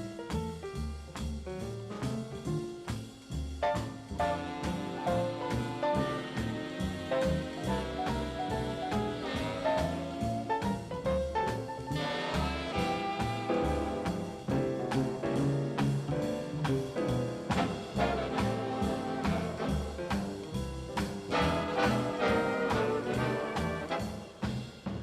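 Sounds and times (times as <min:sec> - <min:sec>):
jazz music with brass: 0:00.0 - 0:25.0.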